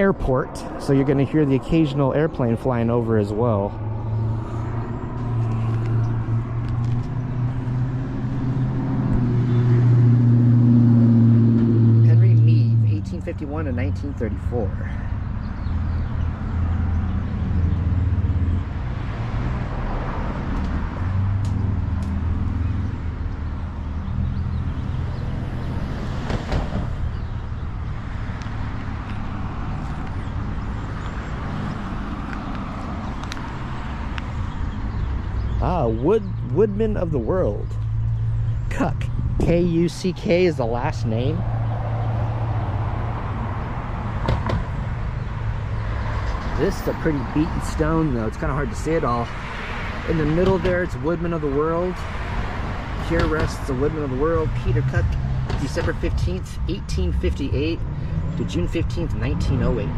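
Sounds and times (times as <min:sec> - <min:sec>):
airplane flying over: 0:00.0 - 0:34.2, 0:35.0 - 0:59.9
traffic rumble: 0:00.0 - 0:59.9.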